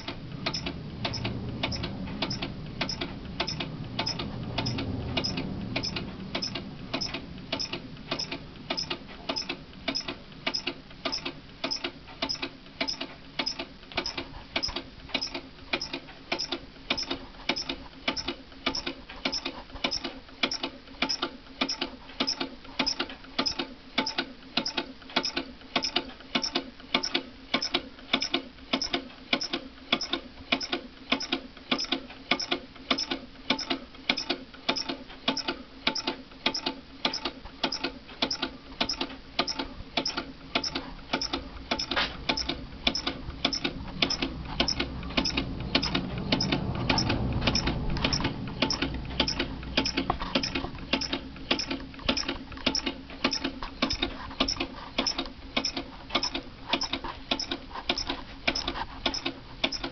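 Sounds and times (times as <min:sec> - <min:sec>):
small engine mechanical clicking: 0:00.0 - 0:59.9.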